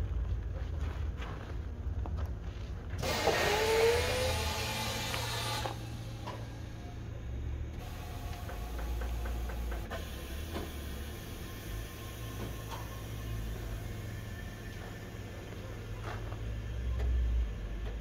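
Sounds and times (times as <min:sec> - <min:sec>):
idling truck hum: 0:00.0 - 0:18.0.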